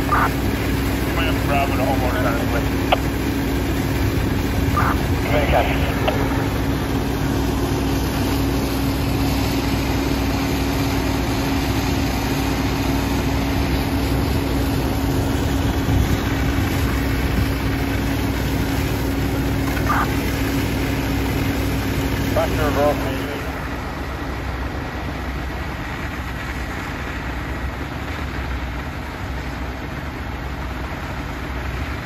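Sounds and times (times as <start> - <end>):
fire engine pump droning: 0.0 - 32.0.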